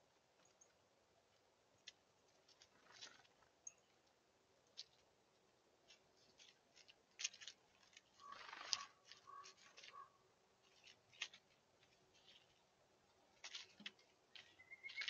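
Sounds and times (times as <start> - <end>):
seeds cracking and pecking: 0.3 - 15.0.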